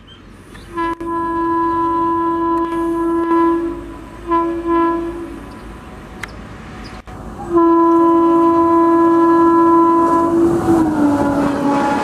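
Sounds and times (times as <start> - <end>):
train approaching at speed: 0.0 - 12.0
locomotive horn blasts: 0.7 - 5.9, 7.5 - 12.0.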